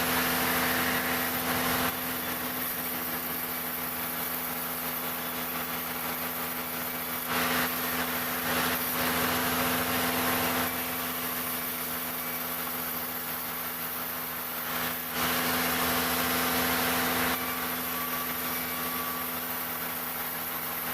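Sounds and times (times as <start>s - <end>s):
blade cutting through wood: 0.0s - 20.9s
wood-cutting machine engine: 0.0s - 20.9s.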